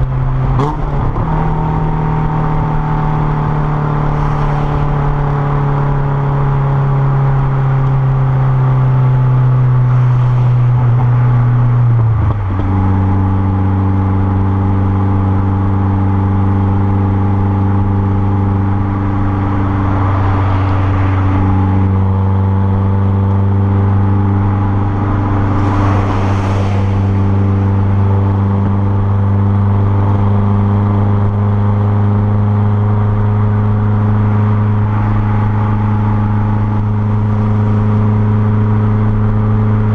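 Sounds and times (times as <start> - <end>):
car engine running at raised revs: 0.0 - 39.9.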